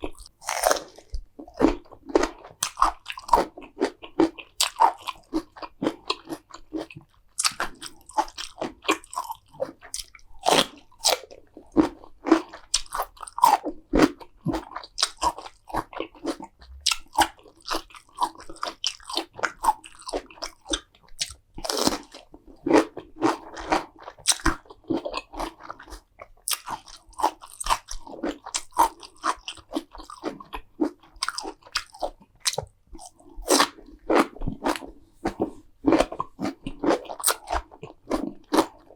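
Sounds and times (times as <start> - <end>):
crunchy food chewing: 0.0 - 38.9.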